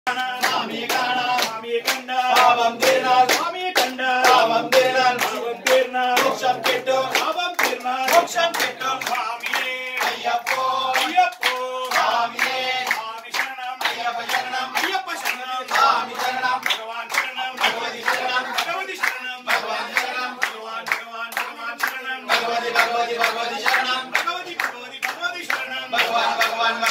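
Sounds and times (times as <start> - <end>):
hands clapping in time: 0.1 - 26.9
men singing devotional song: 0.1 - 26.9.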